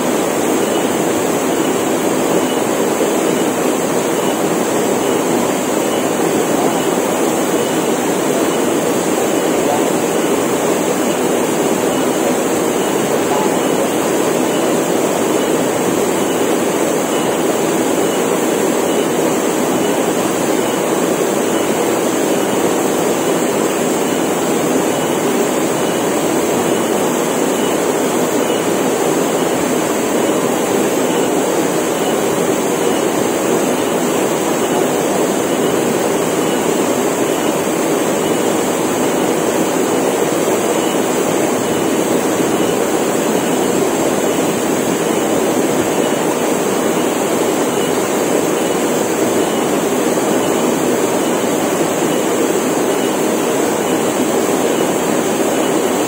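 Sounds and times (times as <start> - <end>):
cicada drone: 0.0 - 53.2.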